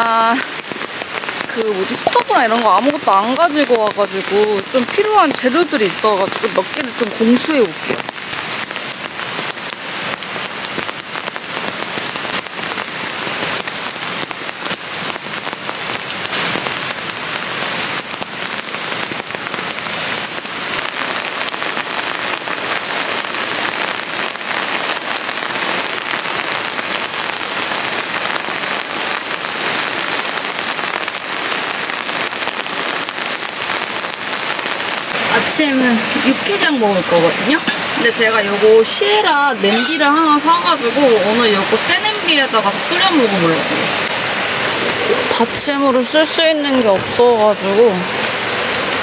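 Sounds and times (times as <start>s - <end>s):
rain pattering on plastic umbrella: 0.0s - 49.0s.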